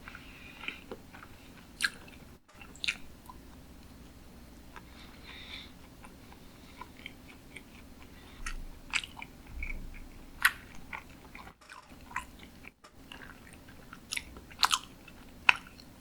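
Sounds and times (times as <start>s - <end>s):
chewing with wet mouth smacks: 0.0s - 3.4s, 4.7s - 16.0s.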